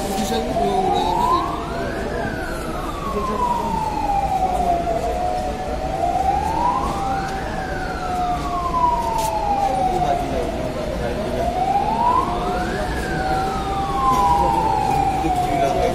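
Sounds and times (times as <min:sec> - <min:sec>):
fire engine siren wailing: 0:00.0 - 0:15.9.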